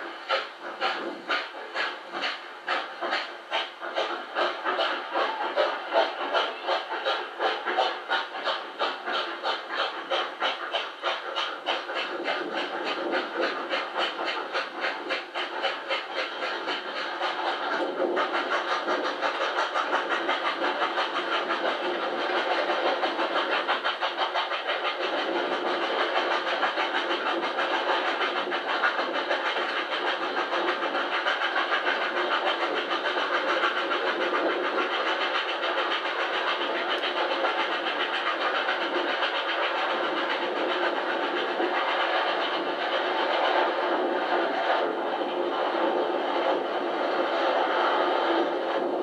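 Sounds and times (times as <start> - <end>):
steam locomotive exhaust beat: 0.0 - 49.0.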